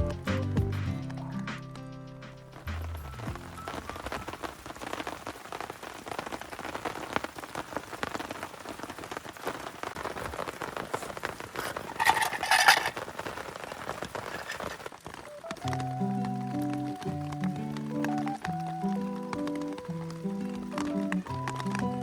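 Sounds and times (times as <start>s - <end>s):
heavy rain on a tarp: 2.5s - 22.0s.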